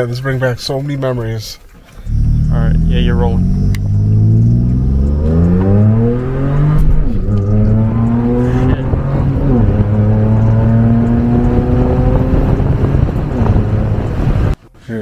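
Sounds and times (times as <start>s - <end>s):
car engine accelerating hard: 1.9s - 14.6s.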